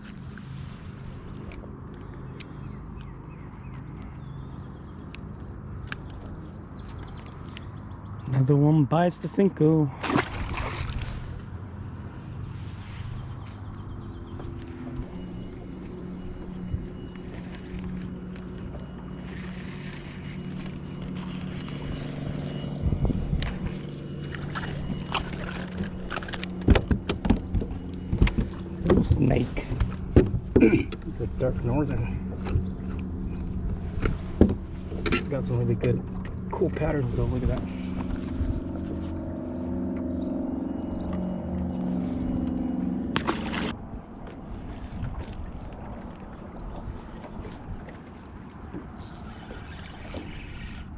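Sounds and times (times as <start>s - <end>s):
boat motor humming: 0.0s - 50.9s.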